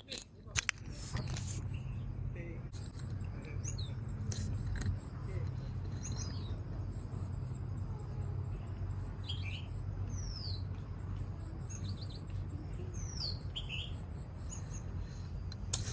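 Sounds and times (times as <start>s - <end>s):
songbirds chirping: 0.0s - 15.9s
steady low rumble: 0.0s - 15.9s.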